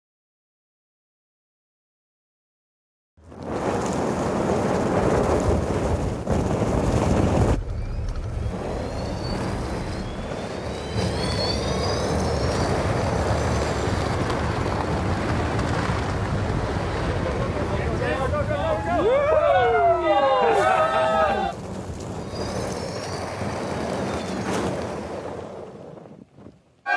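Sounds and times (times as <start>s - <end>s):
tyres churning snow: 3.2s - 26.9s.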